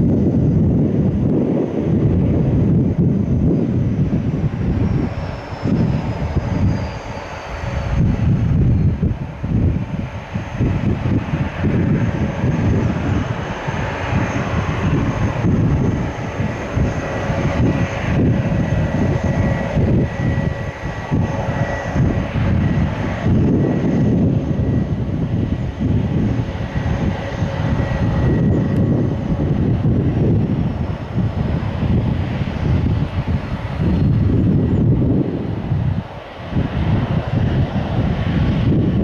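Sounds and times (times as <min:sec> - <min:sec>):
airliner engines whining: 0:00.0 - 0:39.0
wind buffeting microphone: 0:00.0 - 0:39.0.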